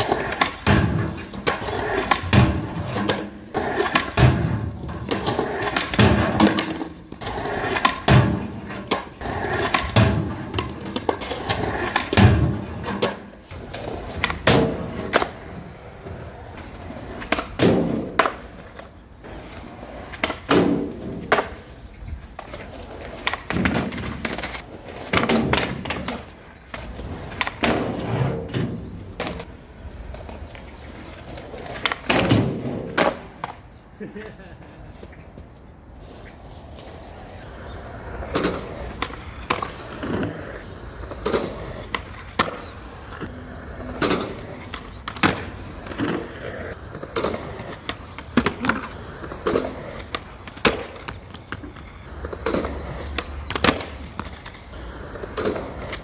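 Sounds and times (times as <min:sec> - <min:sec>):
skateboard clacks: 0:00.0 - 0:35.7, 0:36.3 - 0:56.0
skateboard wheels rolling on concrete: 0:00.0 - 0:56.0.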